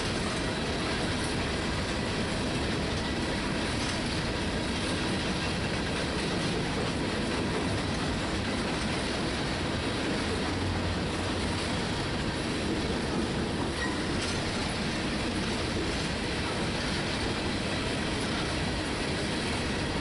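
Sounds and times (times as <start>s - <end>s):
freight train wheels on rail: 0.0s - 20.0s.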